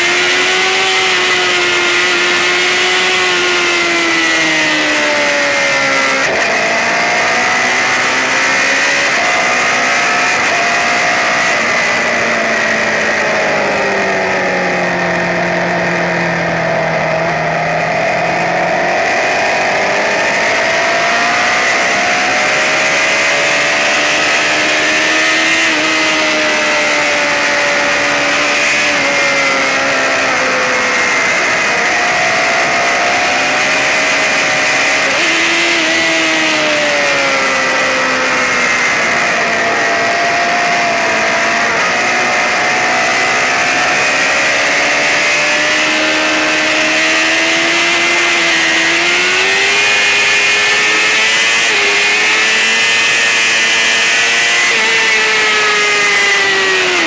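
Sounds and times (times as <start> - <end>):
sportbike engine revving: 0.0 - 57.0.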